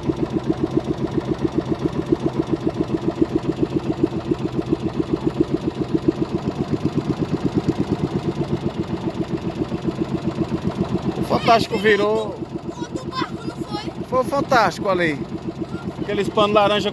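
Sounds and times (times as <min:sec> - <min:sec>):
small boat engine chugging: 0:00.0 - 0:16.9.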